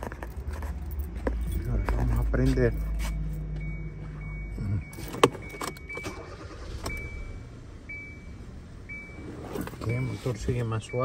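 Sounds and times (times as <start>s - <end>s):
high warning chime beeping: 1.3s - 11.0s.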